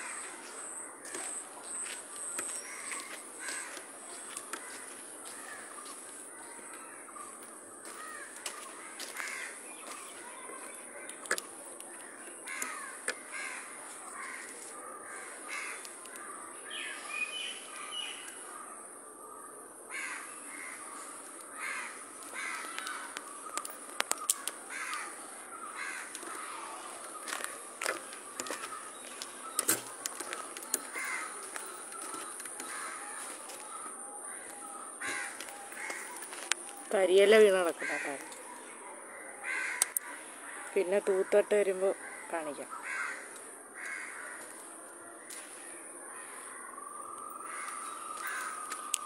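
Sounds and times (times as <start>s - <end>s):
crows cawing: 0.0s - 1.4s, 2.2s - 11.2s, 11.9s - 17.0s, 17.7s - 49.0s
outdoor background noise: 0.0s - 49.0s.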